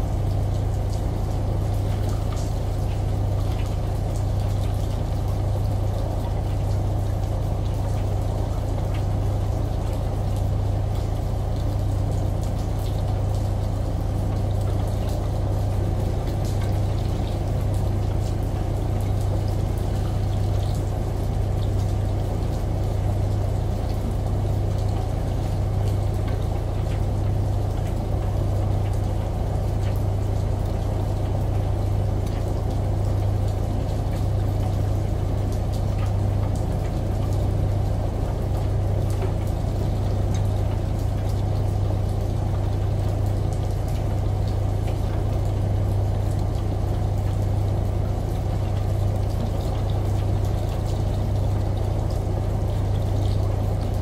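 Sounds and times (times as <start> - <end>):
washing machine low hum: 0.0 - 54.0.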